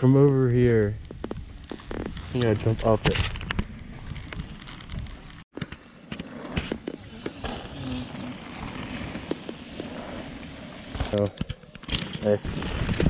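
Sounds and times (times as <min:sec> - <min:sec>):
bike tyres on dirt: 0:00.0 - 0:13.0.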